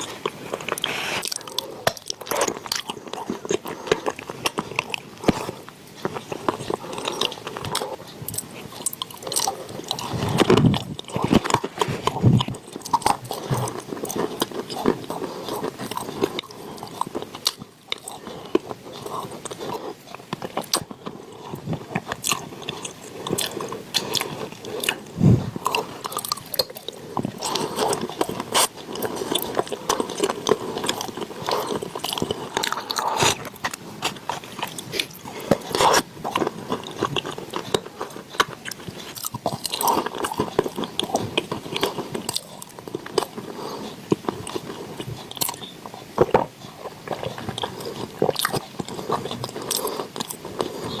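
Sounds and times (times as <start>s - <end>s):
chewing and crunching chalk: 0.0s - 51.0s
wet mouth sounds: 0.0s - 51.0s.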